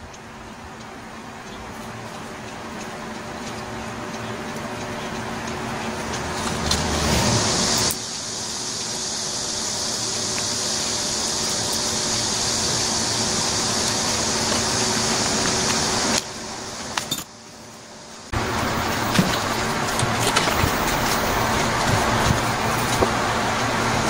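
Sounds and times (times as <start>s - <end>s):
fan whirring hum: 0.0s - 24.0s.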